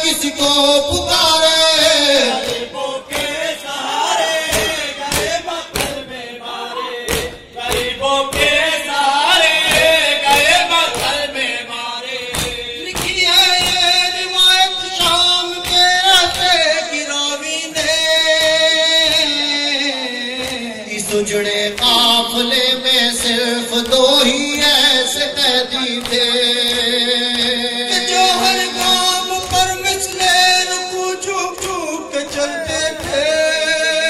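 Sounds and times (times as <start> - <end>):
men chanting together: 0.0 - 34.0.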